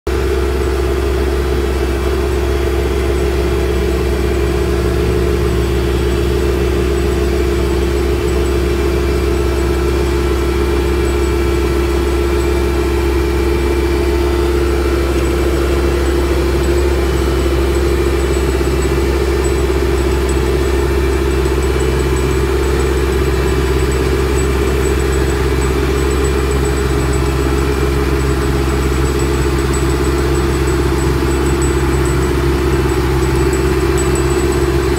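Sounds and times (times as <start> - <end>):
large engine running steadily: 0.1 - 34.9.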